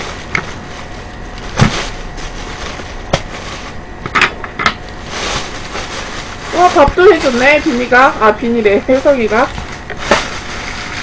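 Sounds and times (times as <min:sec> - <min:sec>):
plastic bag rustling and crinkling: 0:00.0 - 0:04.1, 0:04.8 - 0:11.0.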